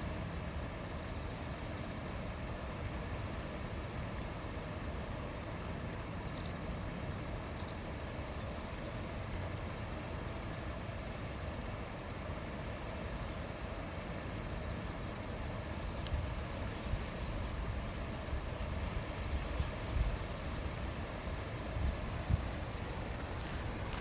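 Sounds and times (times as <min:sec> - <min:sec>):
shallow river babbling: 0:00.0 - 0:24.0.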